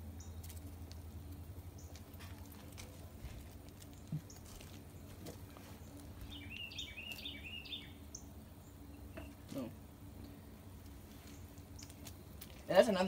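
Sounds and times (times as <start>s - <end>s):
low outdoor rumble: 0.0s - 13.0s
songbird chirping: 0.0s - 13.0s.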